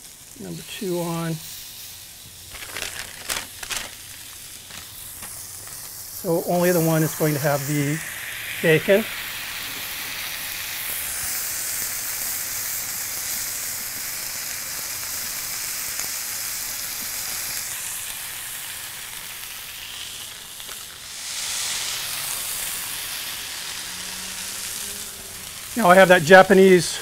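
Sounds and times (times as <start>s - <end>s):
burger patties sizzling on griddle: 0.0s - 27.0s.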